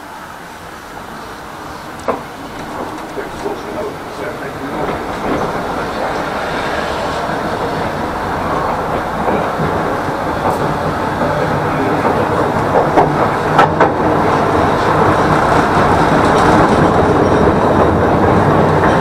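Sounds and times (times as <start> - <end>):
tram rumbling: 0.0 - 19.0
wheels clacking over rails: 1.1 - 19.0.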